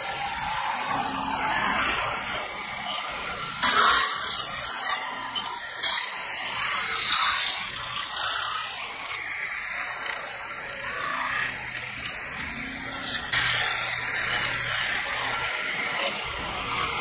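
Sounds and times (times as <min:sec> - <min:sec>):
spinning tool scraping metal: 0:00.0 - 0:17.0.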